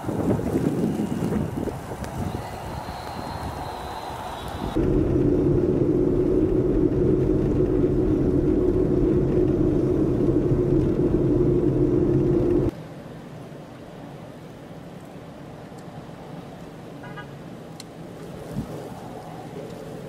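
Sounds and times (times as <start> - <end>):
car road and engine drone: 2.8 - 20.0.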